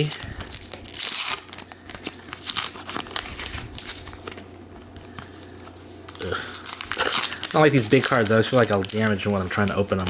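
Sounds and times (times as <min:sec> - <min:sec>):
card packaging crinkling and tearing: 0:00.0 - 0:10.0.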